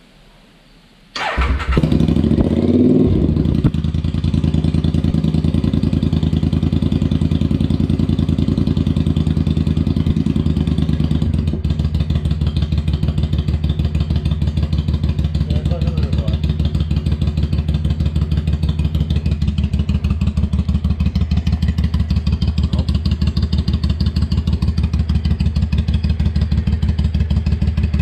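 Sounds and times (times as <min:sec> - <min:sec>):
motorcycle engine starting and idling: 0:01.1 - 0:28.0.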